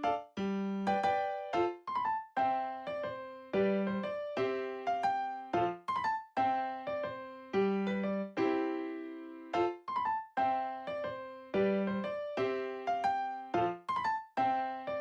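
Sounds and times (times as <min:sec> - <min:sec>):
piano-like keyboard melody: 0:00.0 - 0:15.0.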